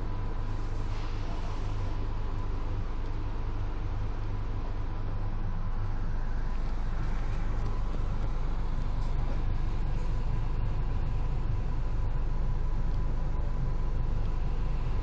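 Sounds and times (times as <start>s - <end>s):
low hum inside railway coach: 0.0s - 15.0s.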